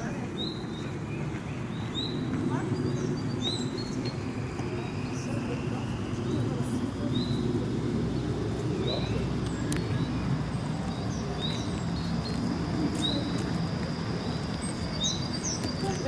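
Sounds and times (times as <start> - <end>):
low city rumble: 0.0 - 16.0
songbirds chirping: 0.0 - 16.0.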